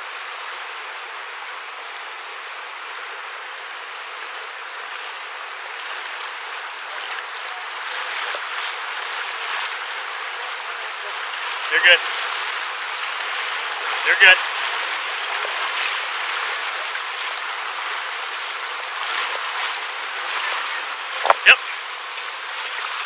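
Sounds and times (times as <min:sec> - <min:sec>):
flood water rushing: 0:00.0 - 0:23.0.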